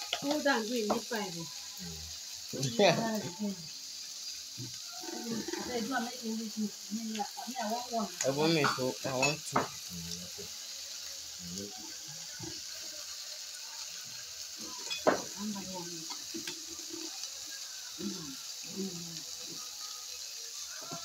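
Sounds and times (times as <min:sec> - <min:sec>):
vegetables sizzling in a frying pan: 0:00.0 - 0:21.0.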